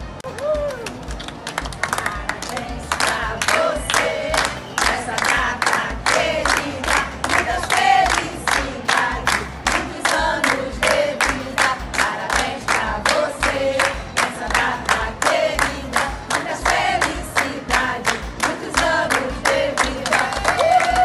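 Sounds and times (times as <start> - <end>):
hand clapping: 0.2 - 21.0
women singing: 1.9 - 20.9.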